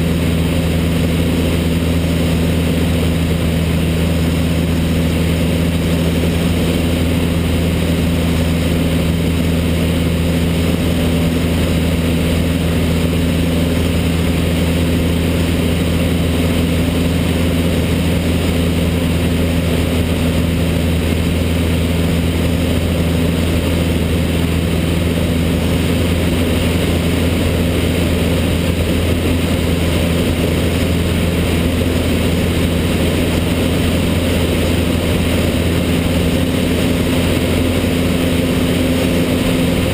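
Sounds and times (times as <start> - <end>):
light aircraft engine and propeller drone: 0.0 - 39.9.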